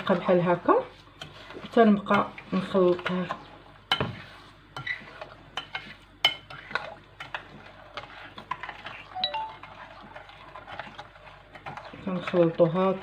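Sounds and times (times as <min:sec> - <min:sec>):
spoon stirring wet mixture: 0:00.0 - 0:13.0.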